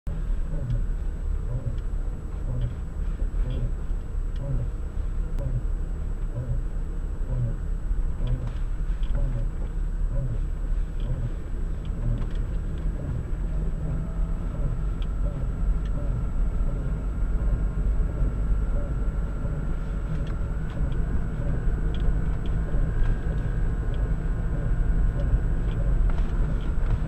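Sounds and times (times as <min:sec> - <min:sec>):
car rolling slowly: 0:00.1 - 0:27.0
rhythmic axle thumping: 0:00.4 - 0:04.8, 0:06.3 - 0:10.4, 0:11.0 - 0:27.0.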